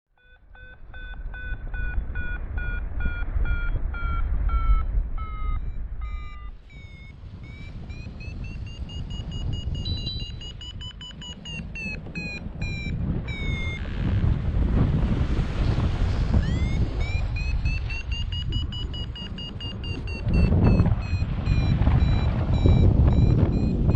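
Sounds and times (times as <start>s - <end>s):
variometer short beeps: 0.2s - 14.3s, 16.4s - 23.9s
wind noise on microphone: 0.4s - 23.9s.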